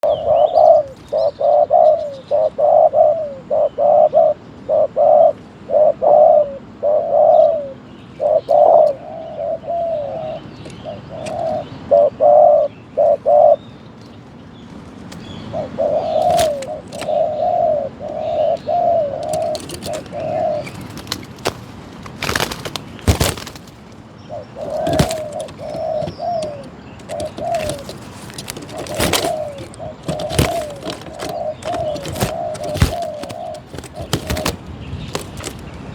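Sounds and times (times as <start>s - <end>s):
dove cooing: 0.0s - 13.6s, 15.1s - 21.6s, 22.2s - 35.6s.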